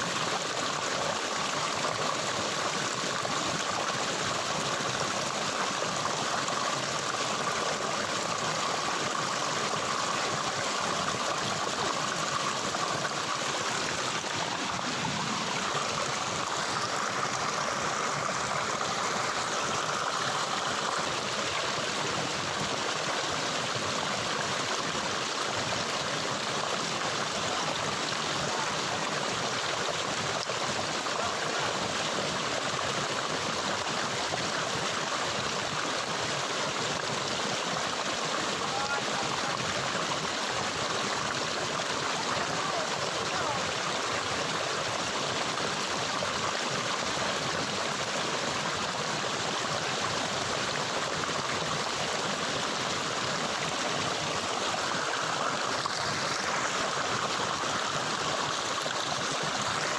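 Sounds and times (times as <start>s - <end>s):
stream water running: 0.0s - 59.9s.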